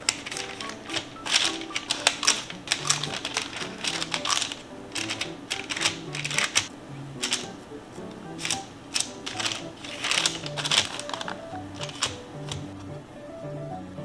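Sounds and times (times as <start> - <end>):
simple stepped melody music: 0.0 - 14.0.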